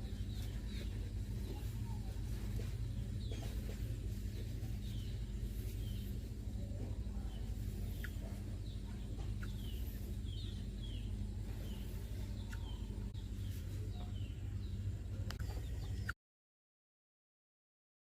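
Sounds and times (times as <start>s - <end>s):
steady low rumble: 0.0s - 16.2s.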